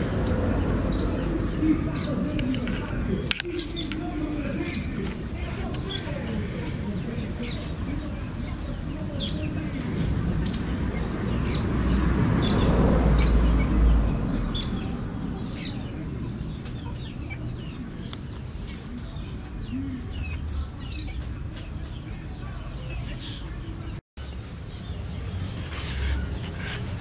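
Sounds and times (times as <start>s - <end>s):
birds chirping: 0.0s - 27.0s
chickens clucking: 0.0s - 27.0s.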